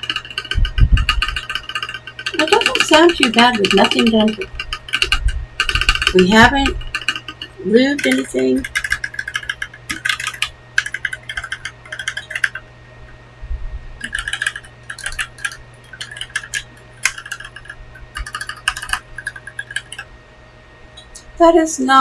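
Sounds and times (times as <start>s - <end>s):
mechanical keyboard key clacks: 0.0s - 12.6s, 14.0s - 20.0s.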